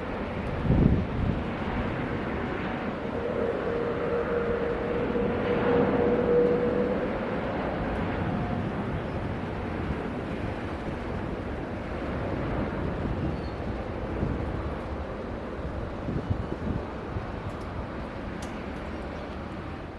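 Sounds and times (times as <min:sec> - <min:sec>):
engine whine: 0:00.0 - 0:19.9
jet engines roaring: 0:00.0 - 0:19.9.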